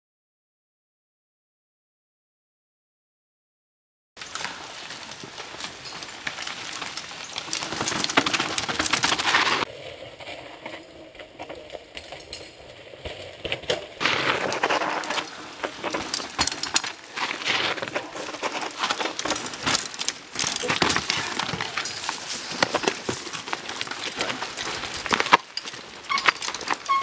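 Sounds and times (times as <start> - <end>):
bike clicks and rattles: 4.2 - 9.7, 10.7 - 27.0
bike tyres crackling over leaves: 4.2 - 27.0.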